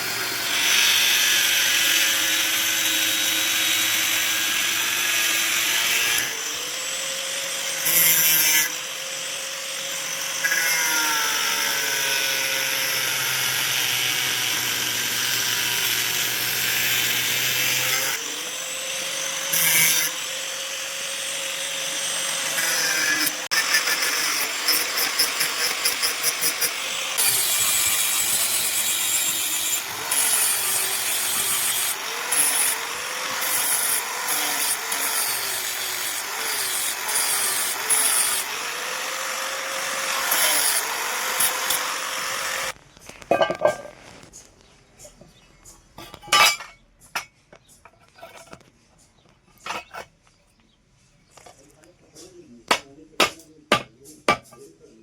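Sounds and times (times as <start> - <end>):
power tool working steel: 0.0 - 43.9, 49.6 - 50.0, 52.7 - 54.7.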